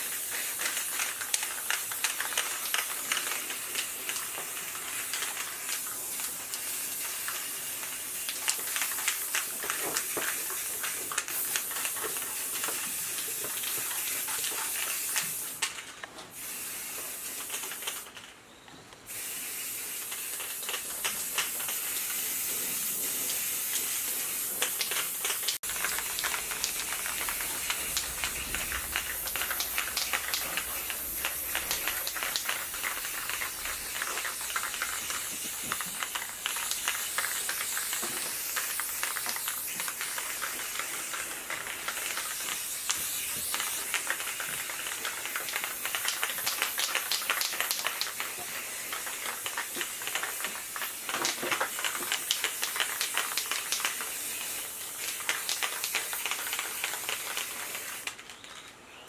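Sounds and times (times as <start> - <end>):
high hissing spray: 0.0 - 15.6, 16.3 - 18.1, 19.1 - 58.1.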